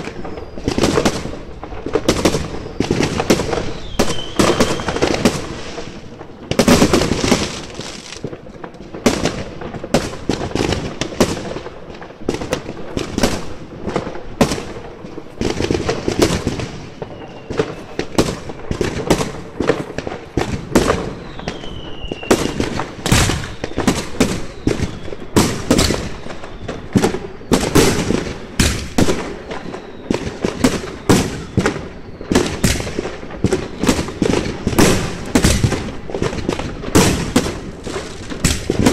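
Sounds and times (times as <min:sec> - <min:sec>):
falling firework whistle: 0:00.0 - 0:08.3, 0:15.4 - 0:38.9
fireworks bangs and crackles: 0:00.0 - 0:38.9.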